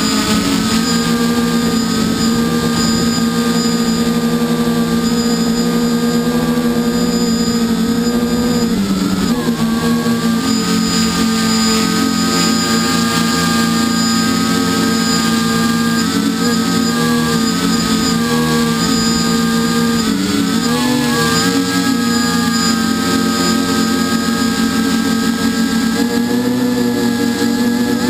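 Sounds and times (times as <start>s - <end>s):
drone motors and propellers whining: 0.0s - 28.0s.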